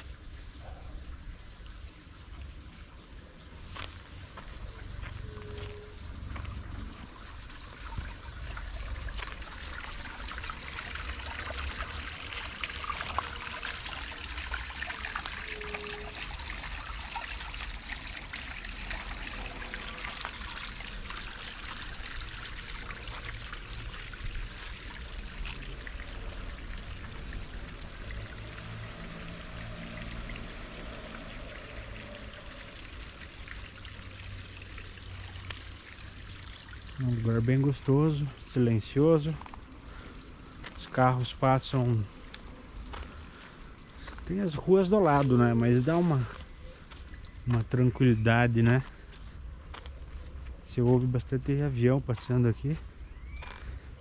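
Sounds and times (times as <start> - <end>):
water trickling: 0.0 - 52.3.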